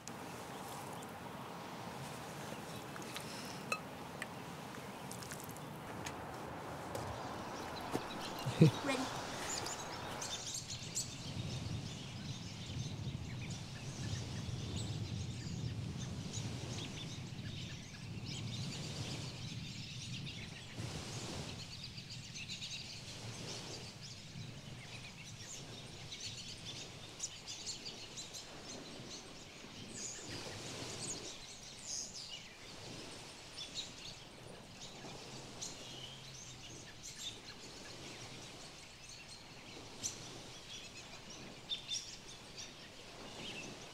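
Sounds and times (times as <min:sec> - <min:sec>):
small birds chirping: 0:00.0 - 0:15.6, 0:23.5 - 0:43.9.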